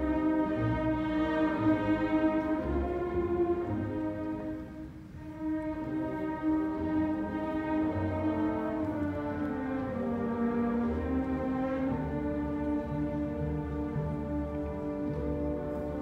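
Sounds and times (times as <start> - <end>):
orchestra playing sustained chords: 0.0 - 16.0
violins and cellos: 0.0 - 16.0.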